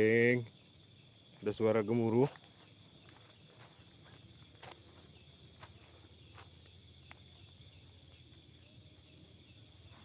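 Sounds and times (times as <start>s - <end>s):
night insects trilling: 0.0s - 10.0s.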